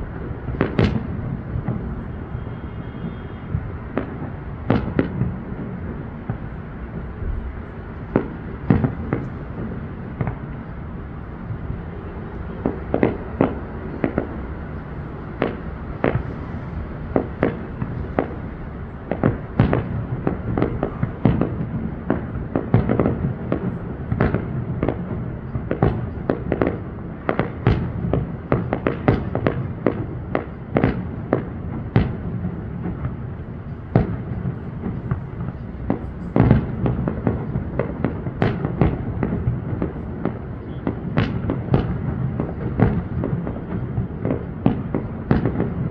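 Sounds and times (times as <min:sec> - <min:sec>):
fireworks bangs: 0:00.0 - 0:45.9.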